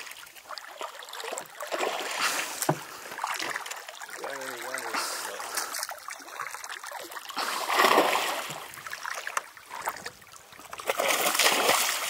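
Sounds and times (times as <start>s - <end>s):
fish thrashing and splashing water: 0.0s - 12.0s.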